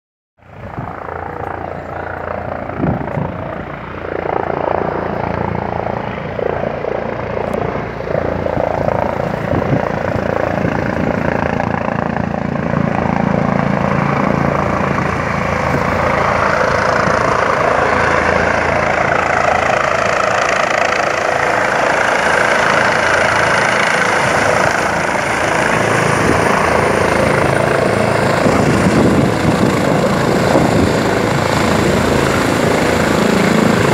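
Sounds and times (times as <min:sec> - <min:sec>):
helicopter rotor and engine: 0:00.4 - 0:33.9.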